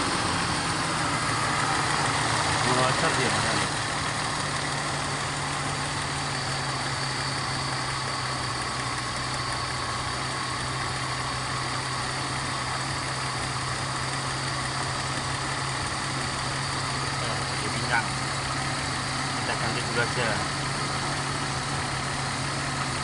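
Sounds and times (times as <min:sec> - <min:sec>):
engine idling while misfiring: 0:00.0 - 0:23.0.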